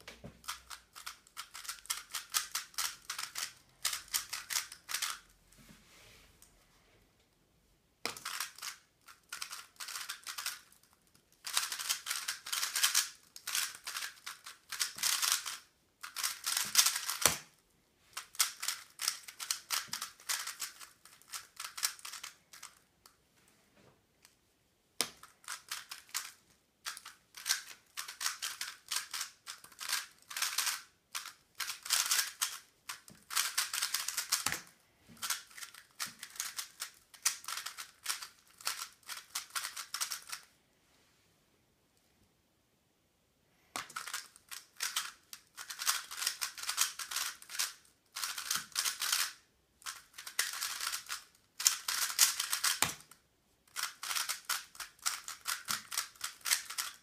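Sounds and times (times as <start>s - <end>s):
puzzle cube clicking: 0.4s - 5.2s, 8.1s - 17.6s, 18.2s - 22.8s, 25.0s - 40.5s, 43.8s - 57.0s.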